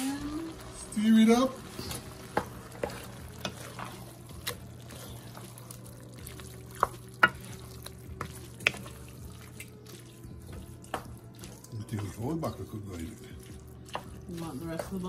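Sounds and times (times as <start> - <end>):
wooden spoon stirring in metal pot: 0.6 - 15.0.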